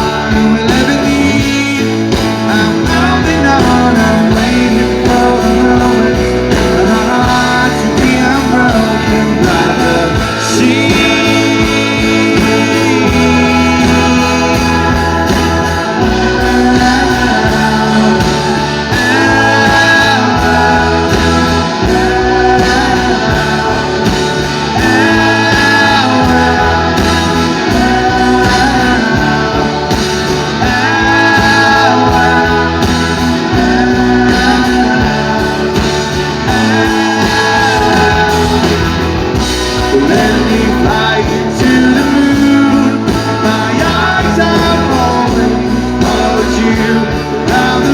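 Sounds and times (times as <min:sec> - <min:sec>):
live rock band: 0:00.0 - 0:47.9
man singing: 0:00.0 - 0:47.9.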